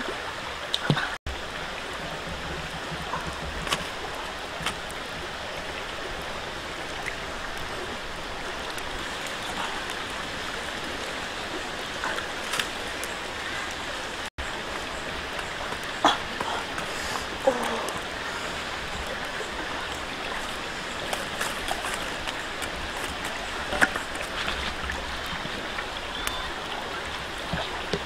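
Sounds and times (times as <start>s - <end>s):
rocky stream rushing: 0.0s - 28.0s.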